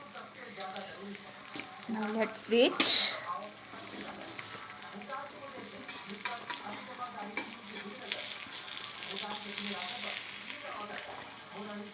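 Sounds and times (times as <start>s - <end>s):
omelette sizzling in a pan: 0.0s - 11.9s.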